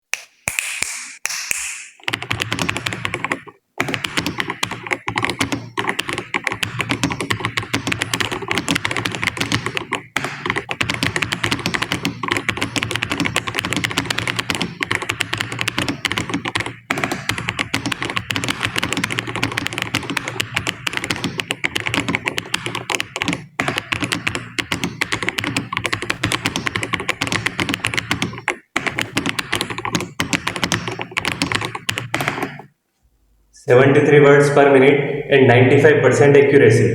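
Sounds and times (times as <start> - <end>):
fast keyboard typing: 2.0 - 32.7.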